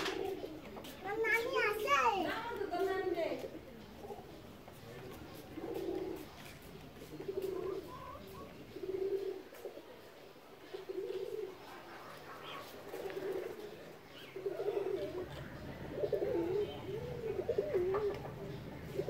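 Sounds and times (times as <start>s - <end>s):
dove cooing: 0.0s - 1.7s, 2.4s - 19.0s.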